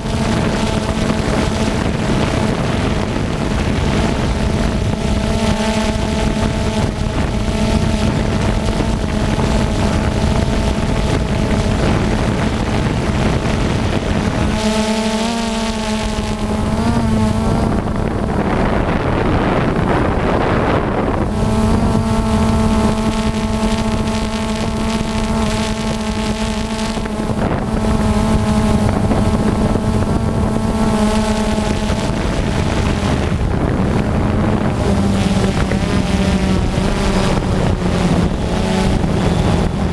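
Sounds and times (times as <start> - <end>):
drone motors humming: 0.0 - 39.9
wind rushing over microphone: 0.0 - 39.9.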